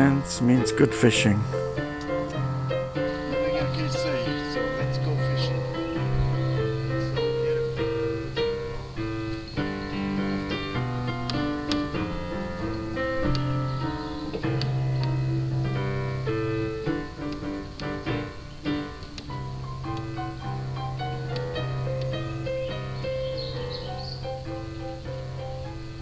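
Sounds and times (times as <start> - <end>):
keyboard melody over bass notes: 0.0 - 26.0.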